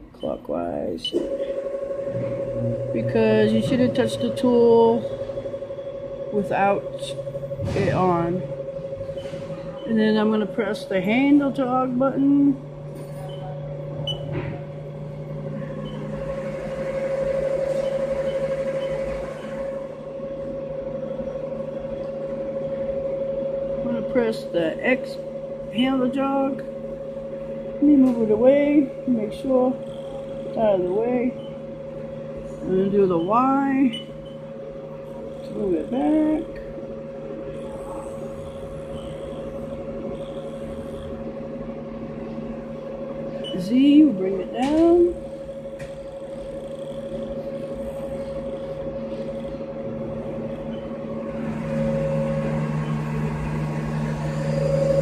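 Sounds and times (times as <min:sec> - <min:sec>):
milling machine humming: 0:00.0 - 0:55.0.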